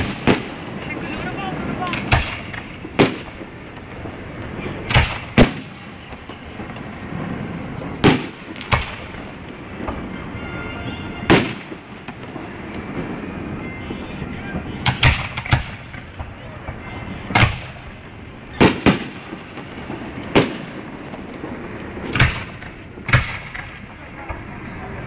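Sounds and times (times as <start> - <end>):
fireworks booming: 0.0 - 25.0.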